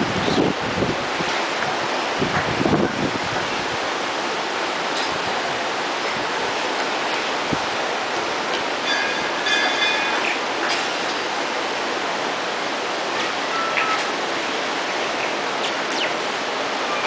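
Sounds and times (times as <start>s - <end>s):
fast river rushing: 0.0s - 17.0s.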